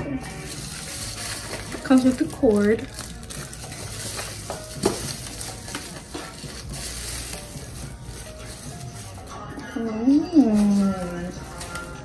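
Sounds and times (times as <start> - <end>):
packaging rustling and crackling: 0.1 - 12.0.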